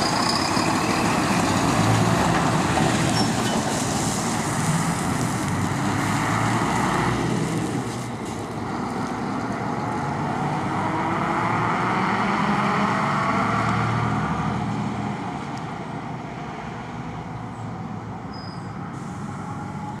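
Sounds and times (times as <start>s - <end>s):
truck diesel engines driving past: 0.0s - 20.0s.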